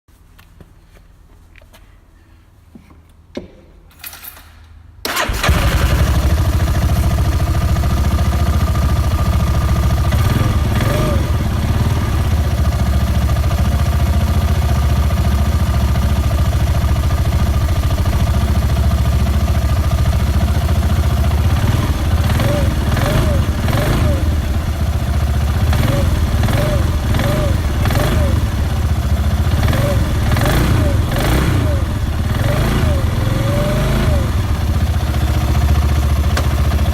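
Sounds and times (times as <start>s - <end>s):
engine idling: 5.1s - 36.9s.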